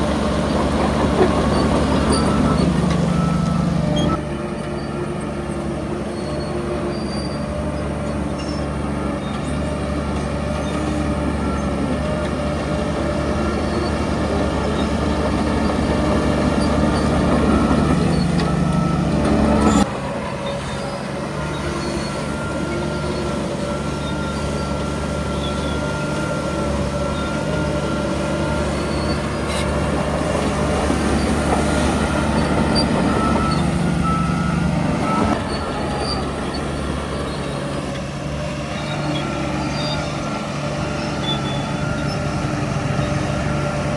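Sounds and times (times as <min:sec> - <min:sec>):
bulldozer diesel engine under load: 0:00.0 - 0:43.9
high metallic squeal: 0:00.4 - 0:05.3, 0:06.1 - 0:09.8, 0:10.6 - 0:43.9.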